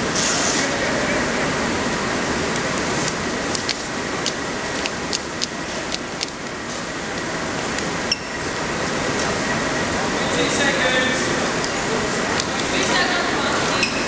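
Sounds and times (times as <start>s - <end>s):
crowd hubbub: 0.0s - 14.0s.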